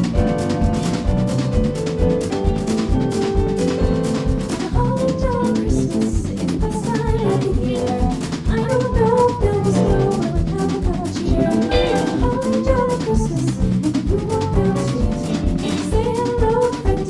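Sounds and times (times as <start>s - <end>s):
jazz combo playing: 0.0s - 16.8s
drum kit beat: 0.0s - 17.0s.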